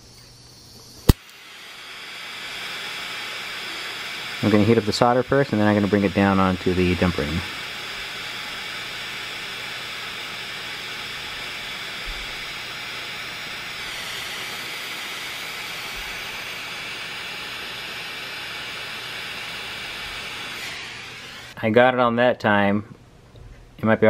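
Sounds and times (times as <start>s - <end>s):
torch flame hissing: 0.0s - 21.8s.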